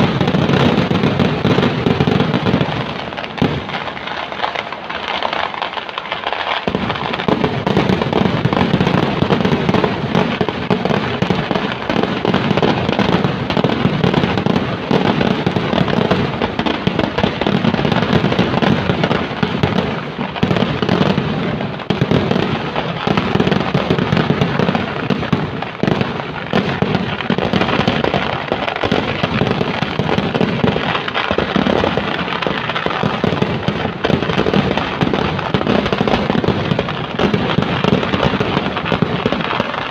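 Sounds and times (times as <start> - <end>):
heavy low firework booms: 0.0 - 4.0, 6.6 - 39.9
firecracker bangs and crackle: 0.0 - 39.9.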